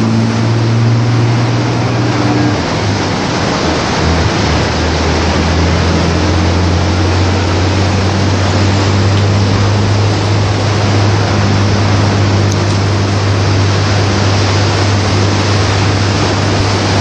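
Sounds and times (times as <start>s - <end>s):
heavy surf rushing: 0.0s - 17.0s
tractor engine running: 0.0s - 17.0s.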